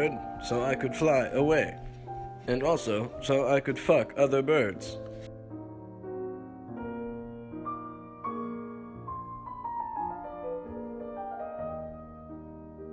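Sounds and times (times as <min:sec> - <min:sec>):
slow gentle piano music: 0:00.0 - 0:12.9.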